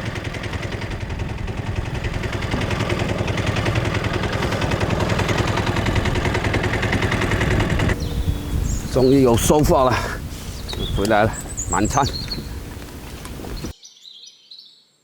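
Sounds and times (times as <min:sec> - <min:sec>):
boat engine chugging: 0:00.0 - 0:13.7.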